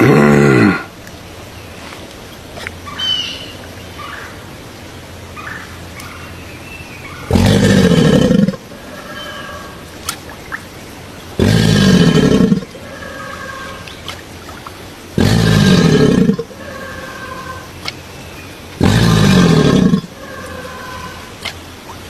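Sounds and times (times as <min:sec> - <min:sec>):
crocodile calling: 0:00.0 - 0:01.0, 0:02.6 - 0:04.4, 0:05.3 - 0:22.0.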